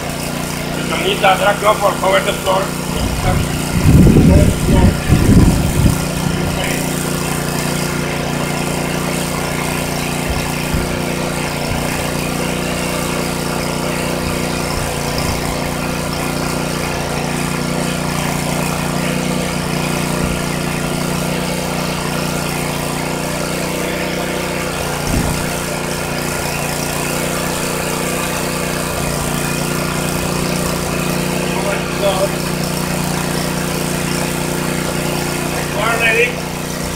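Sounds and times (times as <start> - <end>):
paint sprayer pump motor humming: 0.0 - 36.9.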